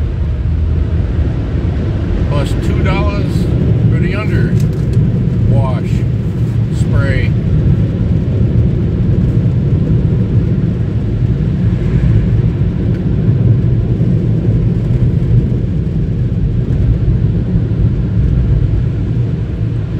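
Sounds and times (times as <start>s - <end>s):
low rumble inside a car: 0.0s - 19.9s.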